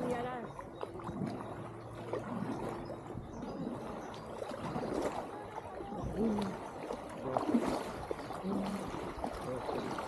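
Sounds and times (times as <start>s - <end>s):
paddle dipping and water splashing: 0.0s - 10.0s.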